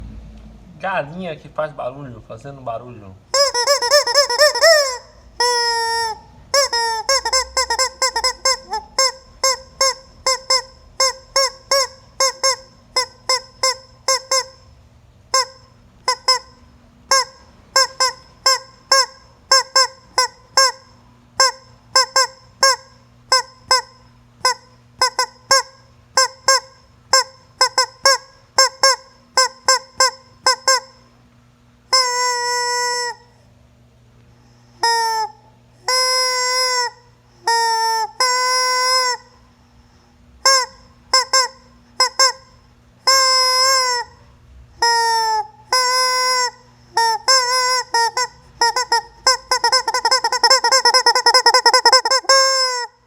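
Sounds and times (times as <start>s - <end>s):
squeeze toy chicken honking: 3.3s - 14.7s, 15.3s - 31.1s, 31.9s - 33.4s, 34.8s - 39.4s, 40.4s - 44.2s, 44.8s - 53.0s.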